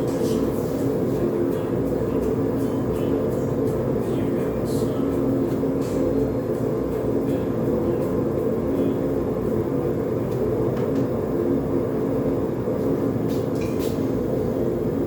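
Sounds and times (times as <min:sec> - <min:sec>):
forge burner roaring: 0:00.0 - 0:15.0.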